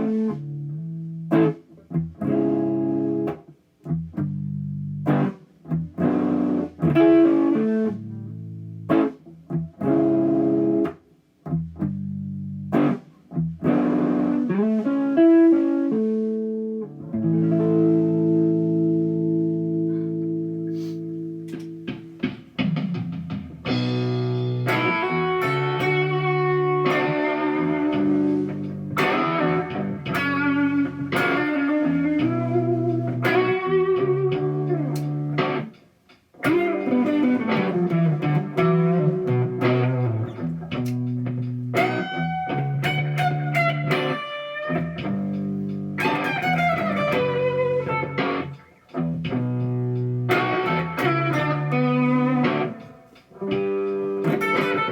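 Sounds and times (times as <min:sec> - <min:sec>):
distorted electric guitar riffs: 0:00.0 - 0:54.9.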